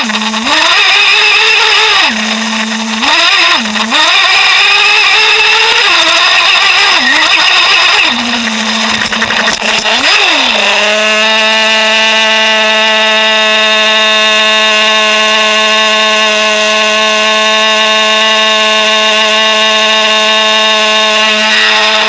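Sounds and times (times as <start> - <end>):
model truck engine revving: 0.0 - 22.0.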